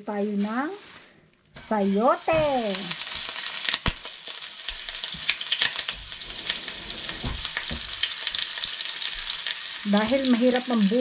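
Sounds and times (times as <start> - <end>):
meat sizzling in a frying pan: 1.6 - 11.0.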